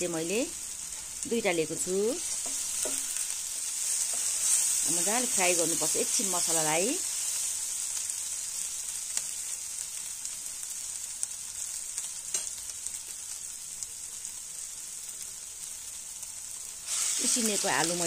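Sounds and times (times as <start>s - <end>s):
onions frying in a pan: 0.0s - 18.0s.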